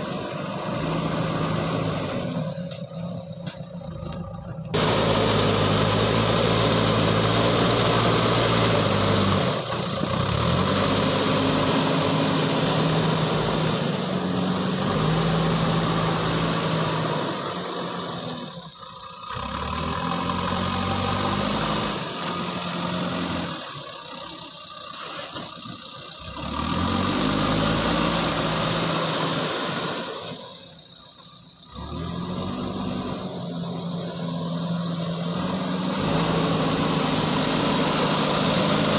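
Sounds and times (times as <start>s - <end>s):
diesel engine revving under load: 0.0s - 38.9s.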